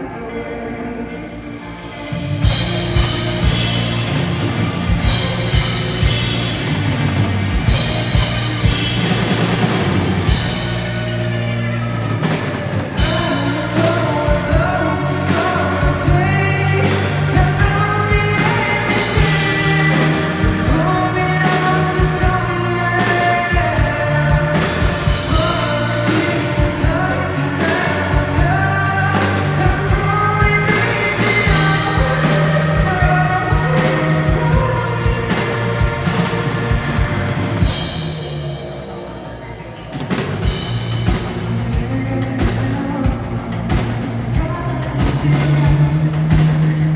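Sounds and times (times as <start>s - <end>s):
bass guitar: 0.0s - 46.9s
guitars: 0.0s - 46.9s
person singing lead vocal: 0.0s - 46.9s
drum kit: 2.2s - 46.9s.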